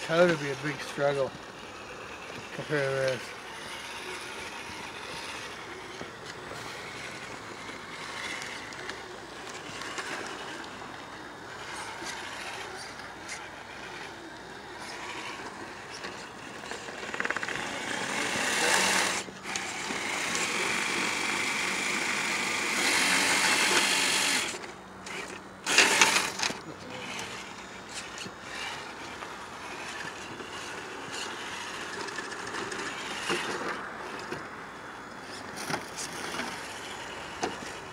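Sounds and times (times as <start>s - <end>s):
rc truck motors whirring: 0.0s - 37.9s.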